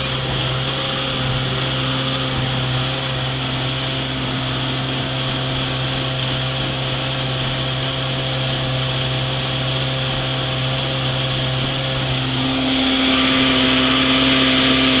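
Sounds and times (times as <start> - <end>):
outboard motor running: 0.0 - 15.0
water and wind hiss: 0.0 - 15.0.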